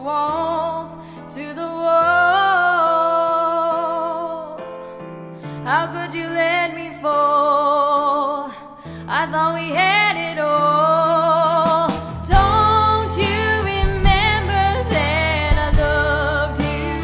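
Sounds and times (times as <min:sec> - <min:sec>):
woman singing with vibrato: 0:00.0 - 0:04.8, 0:05.6 - 0:17.0.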